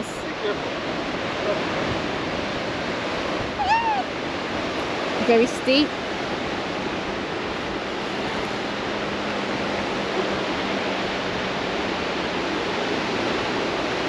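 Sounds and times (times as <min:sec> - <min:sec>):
surf breaking on rocky shore: 0:00.0 - 0:14.0.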